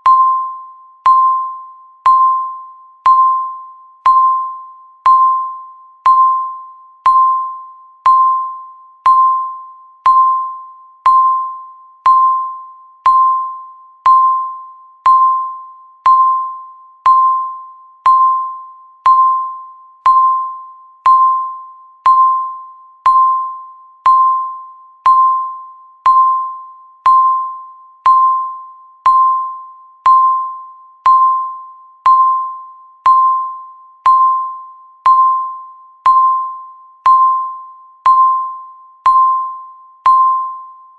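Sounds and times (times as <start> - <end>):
countdown timer beeping: 0.0 - 40.7.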